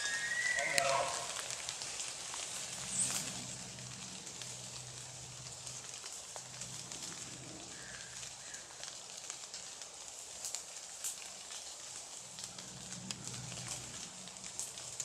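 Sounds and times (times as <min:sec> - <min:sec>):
faint crackling ticks: 0:00.0 - 0:15.0
steady outdoor hiss: 0:00.0 - 0:15.0.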